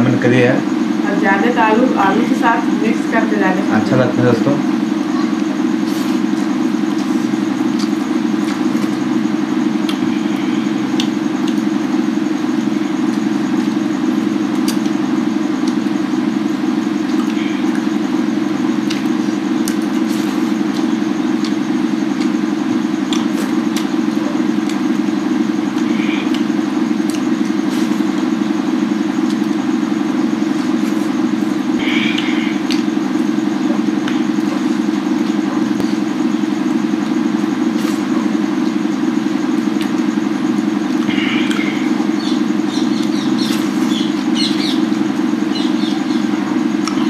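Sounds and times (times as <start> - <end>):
loud mechanical drone: 0.0 - 47.0.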